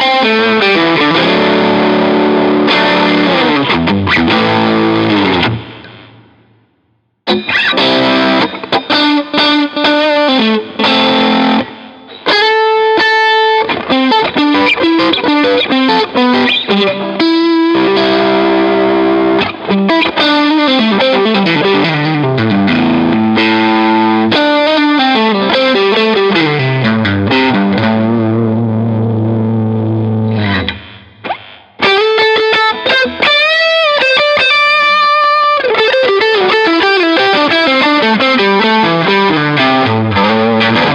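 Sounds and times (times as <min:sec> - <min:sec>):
distorted electric guitar lead: 0:00.0 - 0:40.9.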